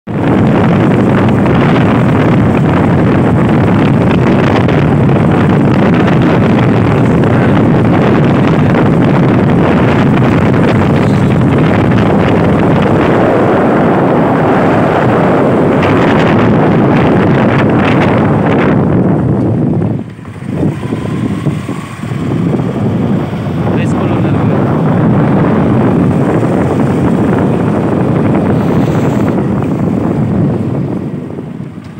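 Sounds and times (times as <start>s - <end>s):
wind rushing on microphone: 0.1s - 31.9s.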